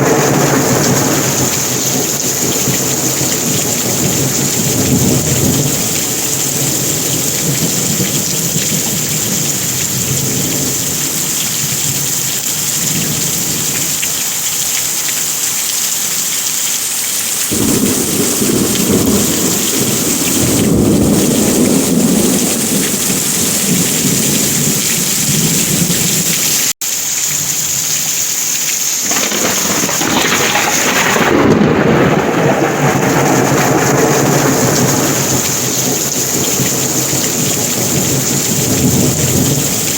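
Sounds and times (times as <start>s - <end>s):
thunder rumbling: 0.0s - 14.0s, 17.4s - 26.6s, 29.1s - 39.9s
heavy rain hissing: 0.0s - 39.9s.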